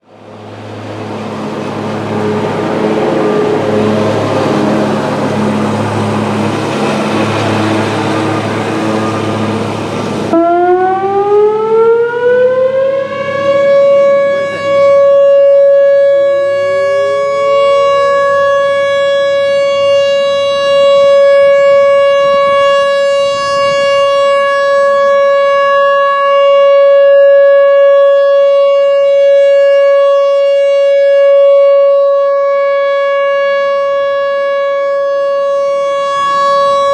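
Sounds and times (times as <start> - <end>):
warning siren steady tone: 0.0 - 36.9
second rising siren tone: 0.1 - 36.9.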